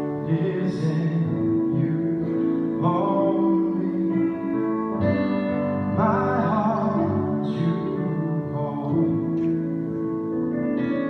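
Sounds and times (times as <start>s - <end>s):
acoustic guitar: 0.0s - 11.0s.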